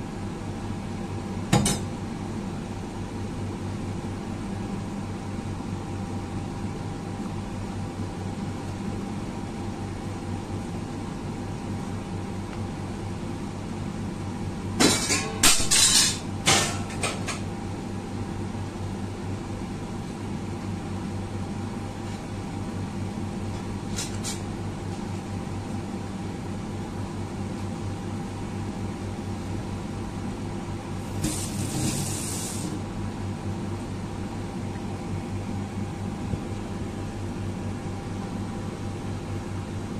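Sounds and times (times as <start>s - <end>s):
appliance fan hum: 0.0s - 39.9s.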